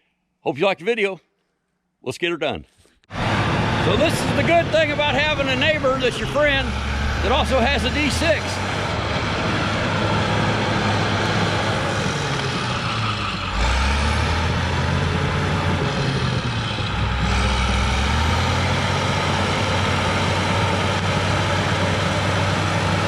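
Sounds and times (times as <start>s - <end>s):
bulldozer diesel engine under load: 3.1s - 23.0s.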